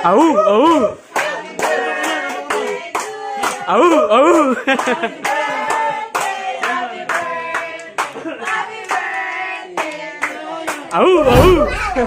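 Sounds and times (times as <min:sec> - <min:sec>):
people singing birthday song: 0:00.0 - 0:12.0.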